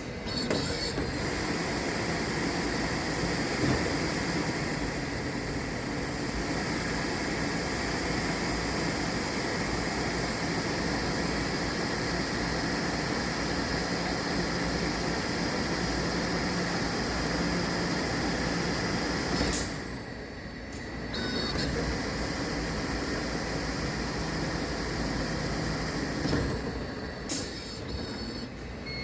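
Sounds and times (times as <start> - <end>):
lathe humming and whining: 0.0 - 29.0
machine hiss: 1.1 - 28.4.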